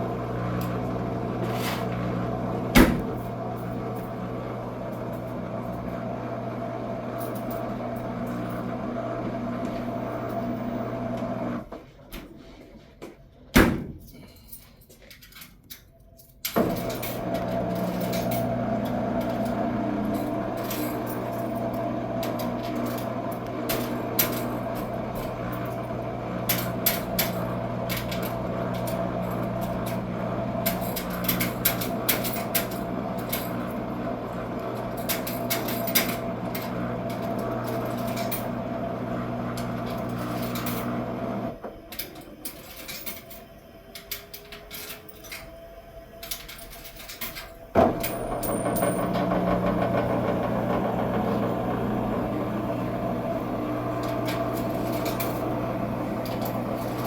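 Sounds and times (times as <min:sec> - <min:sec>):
washing machine motor hum: 0:00.0 - 0:12.5, 0:16.6 - 0:57.0.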